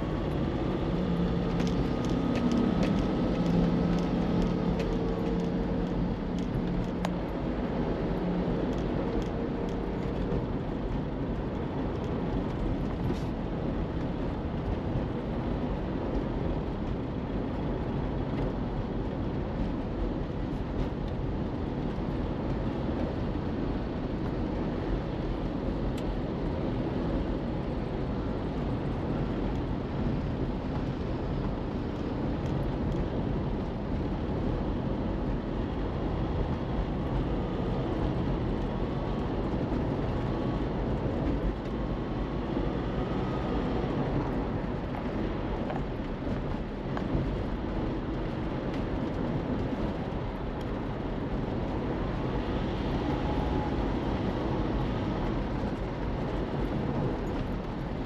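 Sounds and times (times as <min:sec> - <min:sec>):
city traffic road noise: 0:00.0 - 0:58.0
tyres and engines rushing: 0:00.0 - 0:58.0.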